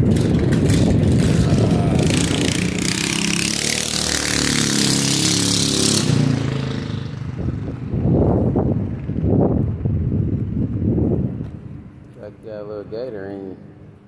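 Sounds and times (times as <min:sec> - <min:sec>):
motor vehicle passing: 0:00.0 - 0:12.1.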